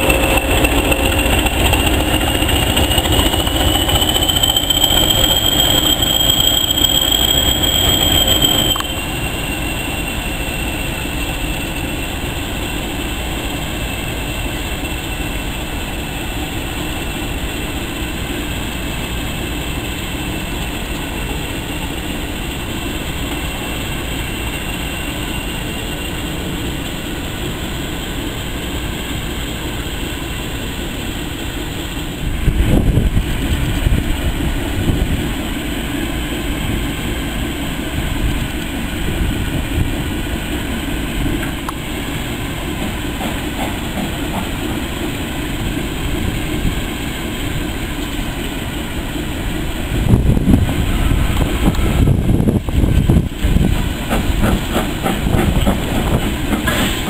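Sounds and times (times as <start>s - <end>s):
diesel locomotive running: 0.0s - 57.0s
steam locomotive rumbling: 0.0s - 57.0s.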